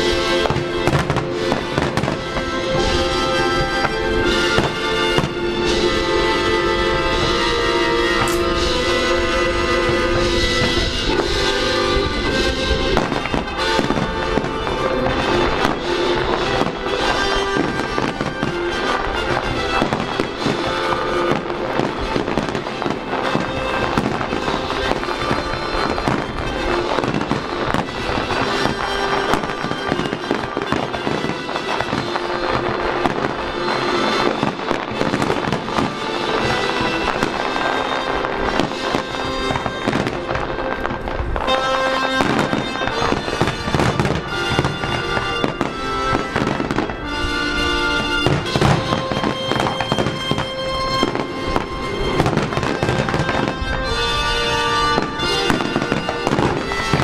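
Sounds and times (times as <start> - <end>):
fireworks bangs and crackling: 0.0 - 57.0
music playing: 0.0 - 57.0.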